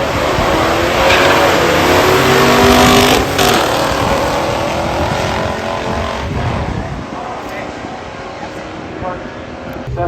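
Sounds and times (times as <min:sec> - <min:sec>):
car engines at full throttle: 0:00.0 - 0:10.0.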